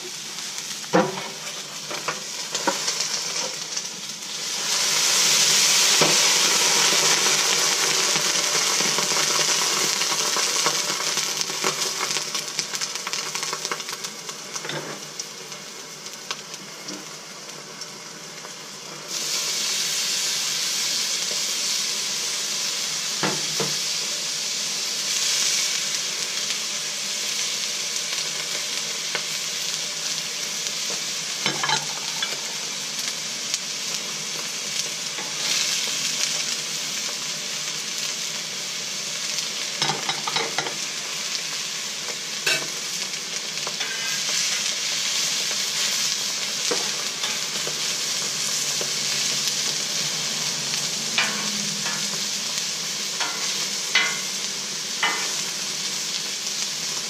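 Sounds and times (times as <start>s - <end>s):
vegetables sizzling on a griddle: 0.0s - 57.0s.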